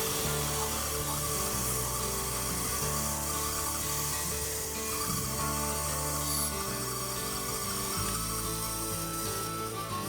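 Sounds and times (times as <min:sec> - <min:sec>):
background music with low notes: 0:00.0 - 0:10.0.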